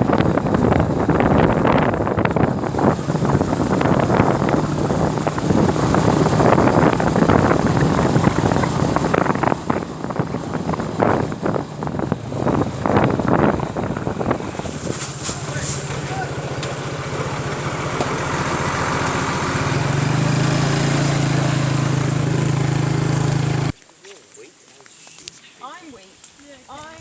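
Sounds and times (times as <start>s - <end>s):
motorbike engine running: 0.0s - 23.7s
wind buffeting microphone: 0.0s - 23.7s, 26.6s - 27.0s.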